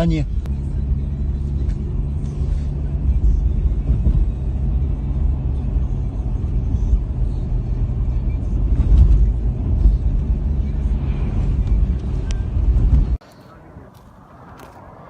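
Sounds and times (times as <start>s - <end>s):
car engine hum: 0.0s - 15.0s
tyre and road rumble: 0.0s - 15.0s.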